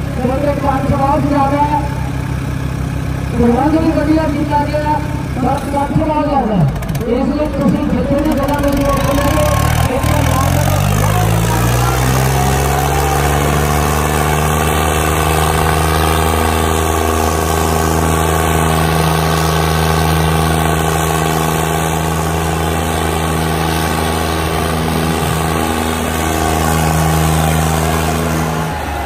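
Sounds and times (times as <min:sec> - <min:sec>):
tractor diesel engines revving: 0:00.0 - 0:29.0.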